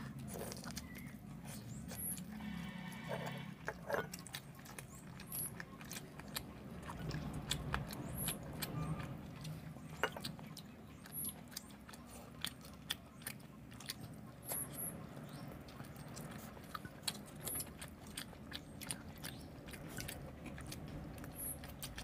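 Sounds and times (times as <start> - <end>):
low steady hum: 0.0 - 22.0
people chewing: 0.0 - 22.0.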